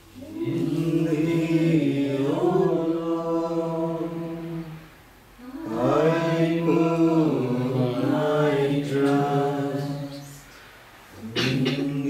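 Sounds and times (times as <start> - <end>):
voices chanting devotional song: 0.0 - 12.0.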